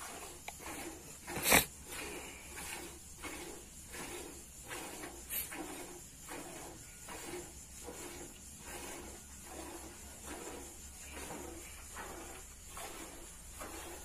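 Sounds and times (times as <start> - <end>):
milk squirting into bucket: 0.0 - 14.0.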